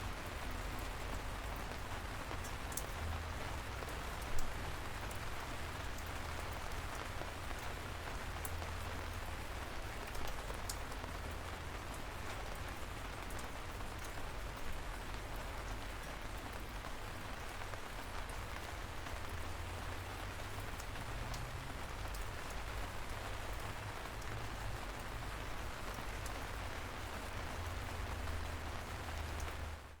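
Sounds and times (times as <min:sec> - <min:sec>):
steady rain falling: 0:00.0 - 0:30.0
raindrop ticks: 0:00.2 - 0:29.9.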